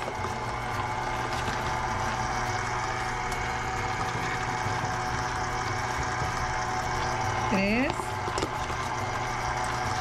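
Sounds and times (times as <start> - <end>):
stand mixer beating dough: 0.0 - 10.0.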